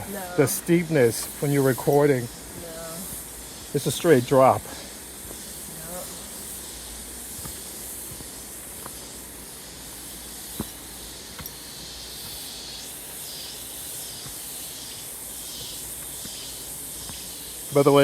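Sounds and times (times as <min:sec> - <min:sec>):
higher hiss: 0:00.0 - 0:18.0
waterfall rushing hiss: 0:00.0 - 0:18.0.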